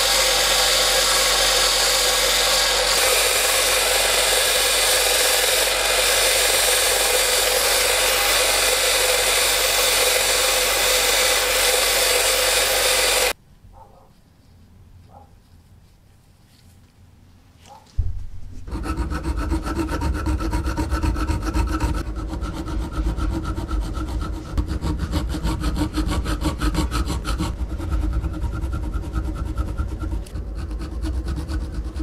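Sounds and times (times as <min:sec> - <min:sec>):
file rasping against steel: 0:00.0 - 0:13.4, 0:18.6 - 0:32.0.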